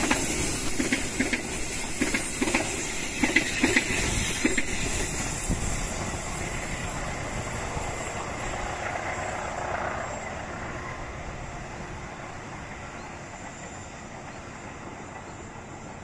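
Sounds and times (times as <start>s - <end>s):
train coaches rumbling on rails: 0.0s - 16.0s.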